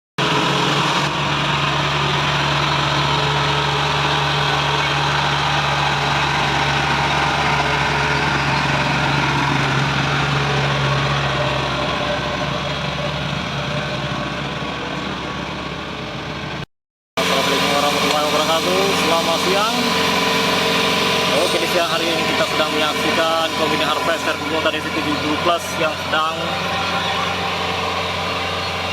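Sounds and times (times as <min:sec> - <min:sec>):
combine harvester engine running: 0:00.2 - 0:16.6, 0:17.2 - 0:28.9.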